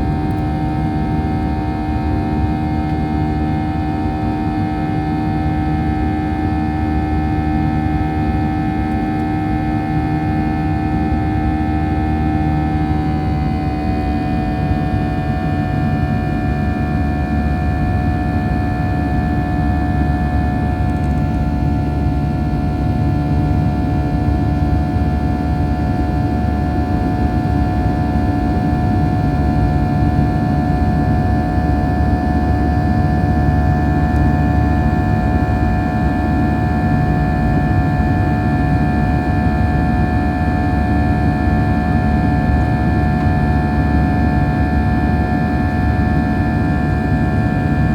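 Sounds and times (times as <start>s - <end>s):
airflow and jet engine rumble: 0.0s - 47.9s.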